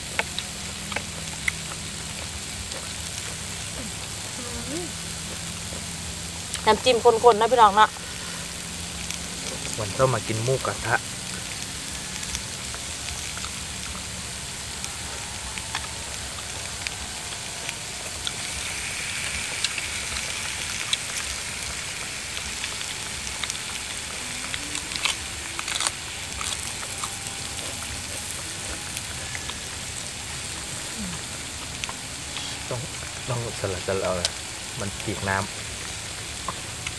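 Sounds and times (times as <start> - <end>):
meat sizzling on a grill pan: 0.0 - 36.9.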